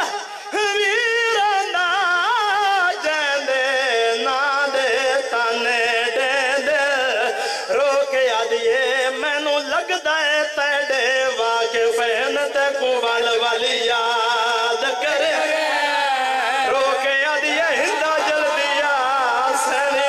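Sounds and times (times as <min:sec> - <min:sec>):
man singing with vibrato: 0:00.0 - 0:20.0.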